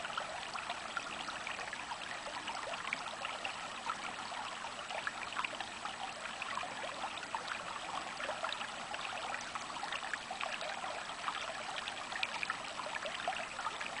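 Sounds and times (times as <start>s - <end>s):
stream babbling over stones: 0.0s - 14.0s.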